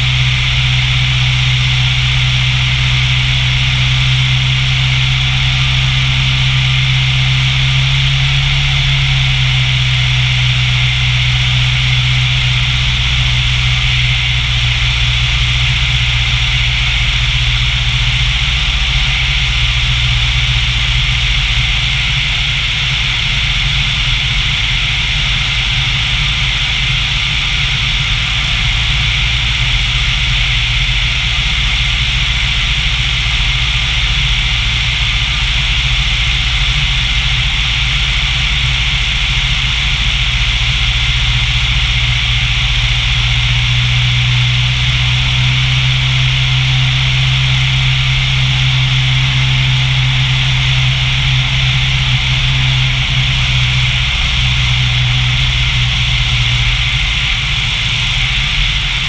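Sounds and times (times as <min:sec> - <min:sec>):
light aircraft engine and propeller: 0:00.0 - 0:59.0.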